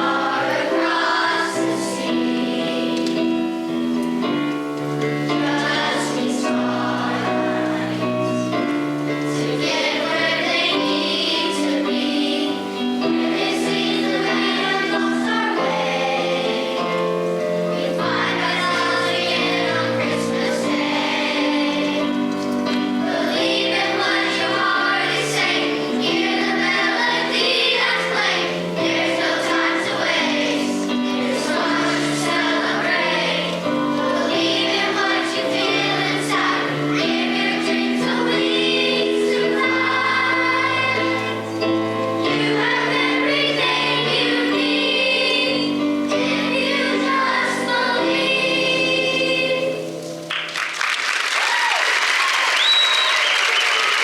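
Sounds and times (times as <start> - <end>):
choir singing: 0.0 - 50.2.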